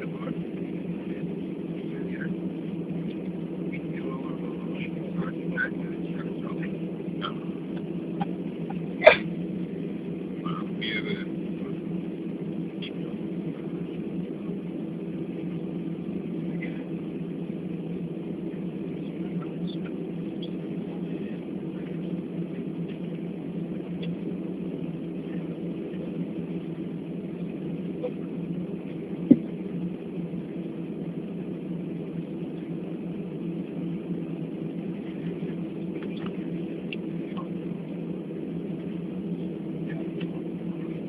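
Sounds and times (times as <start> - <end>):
airliner cabin hum: 0.0 - 41.0
faint passenger voices: 0.0 - 41.0.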